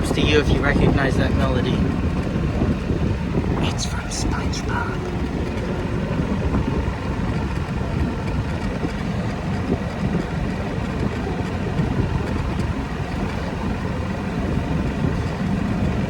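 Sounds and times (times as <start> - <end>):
ride-on vehicle motor rumbling: 0.0 - 16.0.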